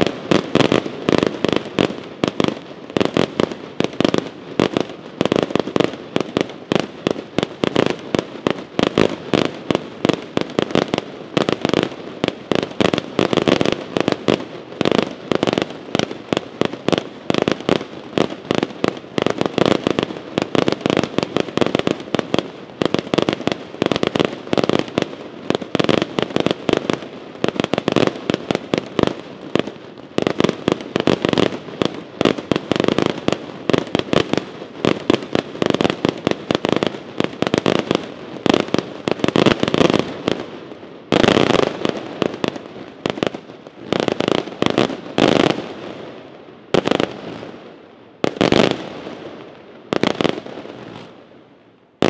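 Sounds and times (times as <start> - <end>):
fireworks launching and bursting: 0.0 - 52.0.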